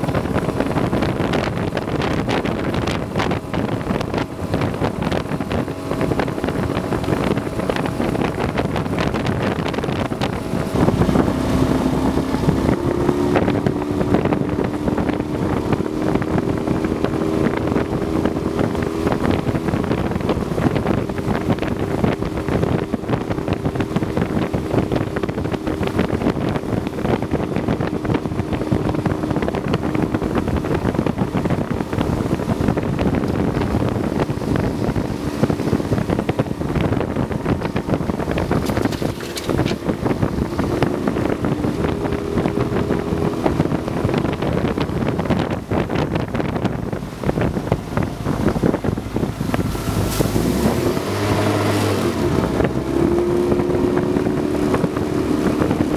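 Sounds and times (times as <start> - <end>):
outboard motor running: 0.0 - 55.9
water rushing past hull: 0.0 - 55.9
wind buffeting microphone: 0.0 - 55.9.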